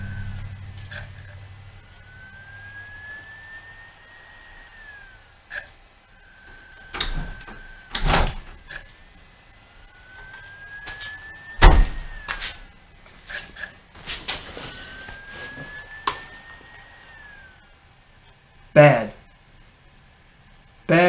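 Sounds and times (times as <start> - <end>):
cd drive whining: 0.0 - 20.8.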